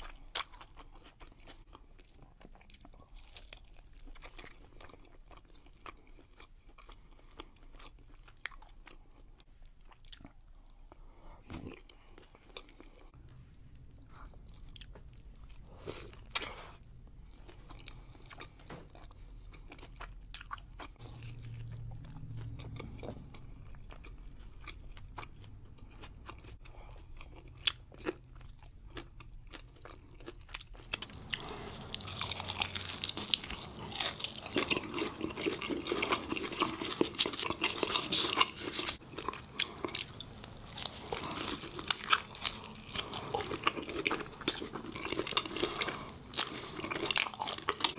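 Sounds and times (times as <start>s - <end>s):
crunching crispy tacos: 0.0s - 10.4s, 14.0s - 47.9s.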